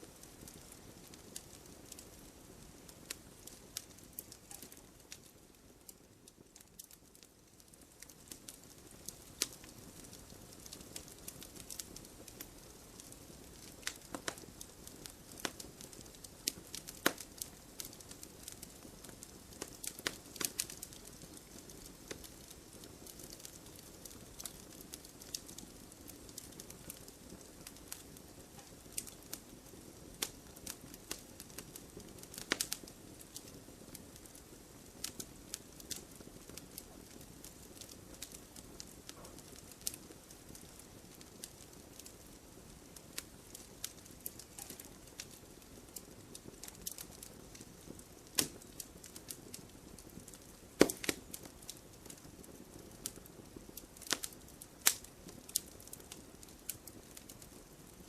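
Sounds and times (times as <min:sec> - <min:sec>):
fire crackling and popping: 0:00.0 - 0:58.0
soft steady rush of fire: 0:00.0 - 0:58.0.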